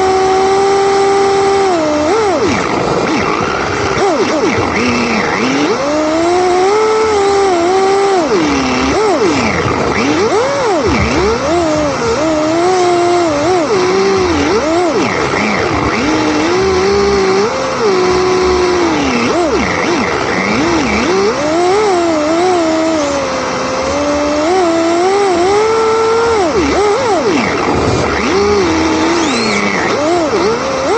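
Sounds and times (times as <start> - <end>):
car engine revving hard: 0.0 - 30.9.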